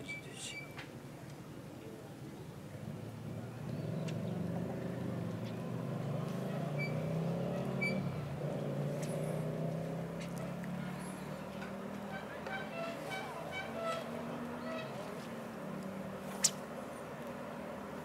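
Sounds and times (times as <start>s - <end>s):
vehicle engine running: 2.8s - 18.0s.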